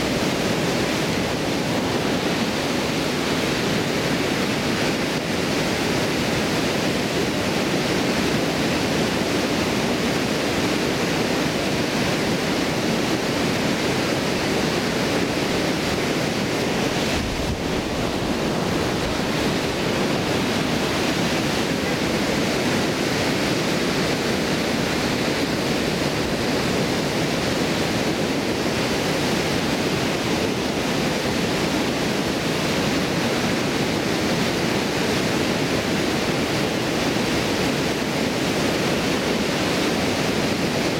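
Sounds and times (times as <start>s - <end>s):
water rushing over weir: 0.0s - 40.9s.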